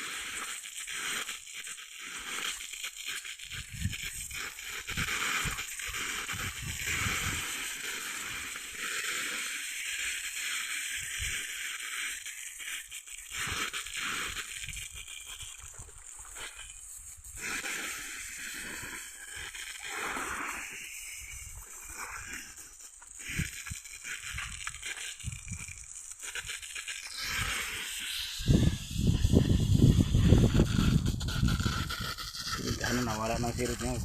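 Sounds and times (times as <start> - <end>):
water spraying from leaking pipe: 0.0 - 34.0.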